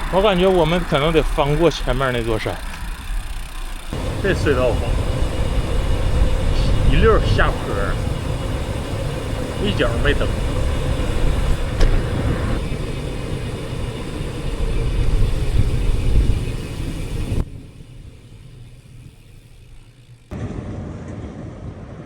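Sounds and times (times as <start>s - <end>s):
bicycle riding rumble and rushing air: 0.0s - 22.0s.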